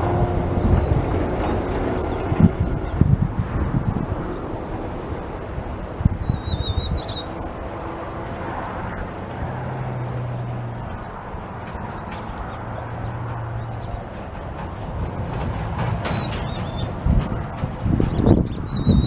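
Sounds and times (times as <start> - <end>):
low drone: 0.0 - 18.8
outdoor background noise: 0.0 - 19.0.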